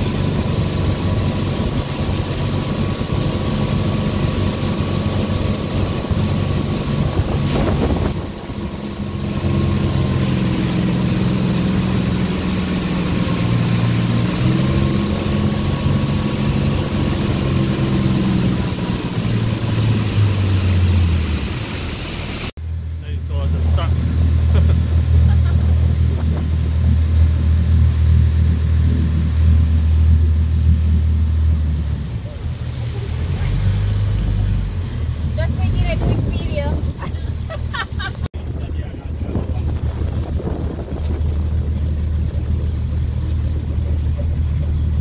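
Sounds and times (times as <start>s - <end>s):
wind on microphone: 0.0s - 21.4s, 23.9s - 45.0s
motorboat engine running: 0.0s - 45.0s.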